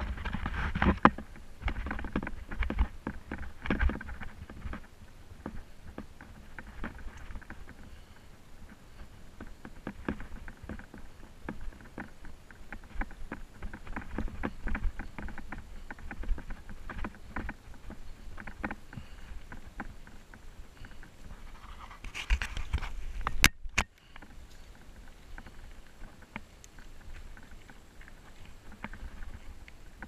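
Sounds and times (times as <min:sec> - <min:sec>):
bicycle rattling over bumps: 0:00.0 - 0:30.0
wind on microphone: 0:00.0 - 0:30.0.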